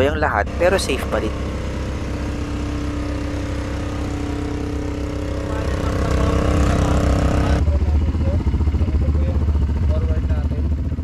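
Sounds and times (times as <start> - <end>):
quad bike engines idling: 0.0 - 11.0.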